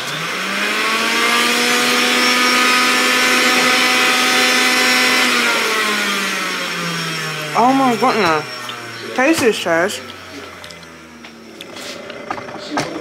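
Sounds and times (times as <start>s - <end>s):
electric juicer motor humming: 0.0s - 13.0s.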